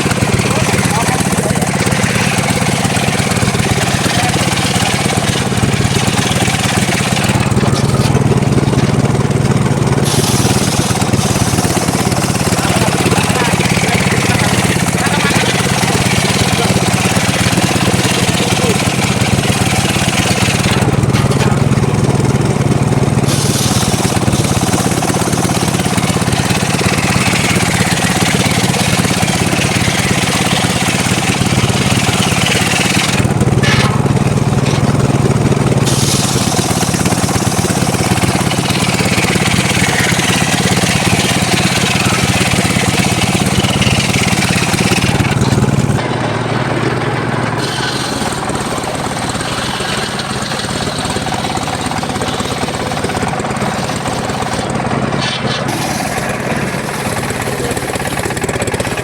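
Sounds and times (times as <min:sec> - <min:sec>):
saw blade cutting wood: 0:00.0 - 0:59.0
sawmill engine hum: 0:00.0 - 0:59.0.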